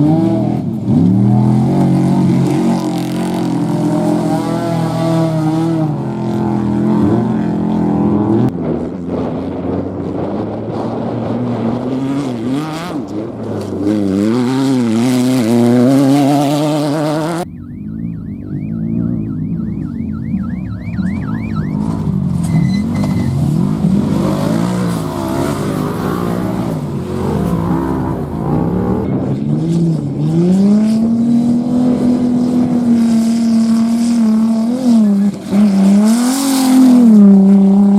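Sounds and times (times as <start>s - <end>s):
race vehicle engines passing: 0.0s - 37.9s.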